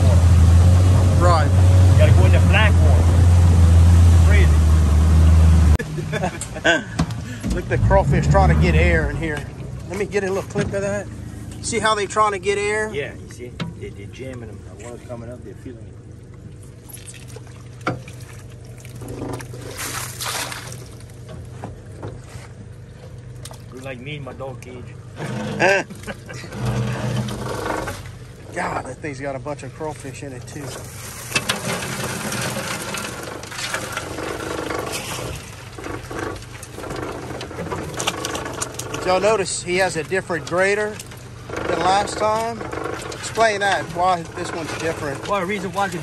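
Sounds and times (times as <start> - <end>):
boat engine humming: 0.0 - 46.0
outboard motor idling: 0.0 - 46.0.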